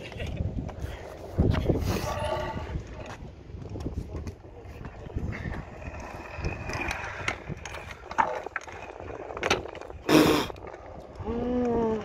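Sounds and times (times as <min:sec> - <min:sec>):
scooter wheels rolling on asphalt: 0:00.0 - 0:12.0.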